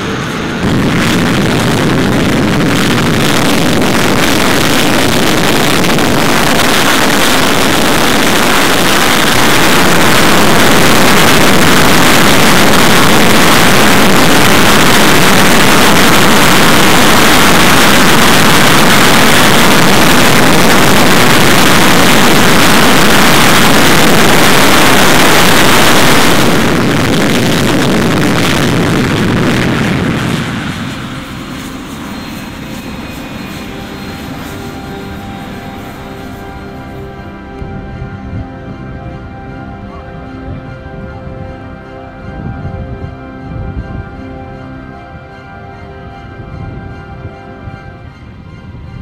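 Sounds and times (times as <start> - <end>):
jet engine roaring: 0.0 - 49.0.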